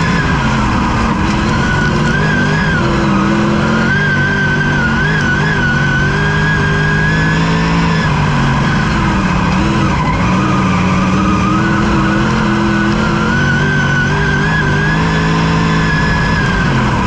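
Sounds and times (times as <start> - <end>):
race car engine under load: 0.0 - 17.0.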